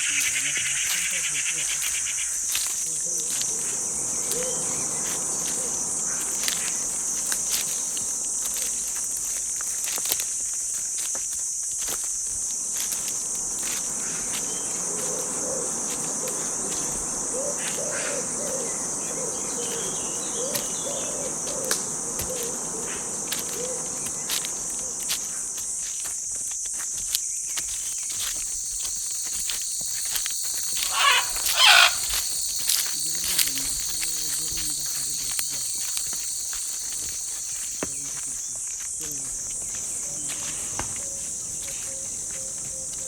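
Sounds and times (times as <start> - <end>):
insect chorus shrilling: 0.0 - 43.0.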